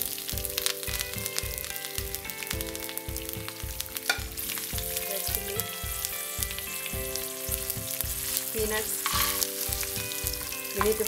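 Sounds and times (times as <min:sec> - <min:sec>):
background music with steady beat: 0:00.0 - 0:11.0
chillies sizzling in hot oil: 0:00.0 - 0:11.0.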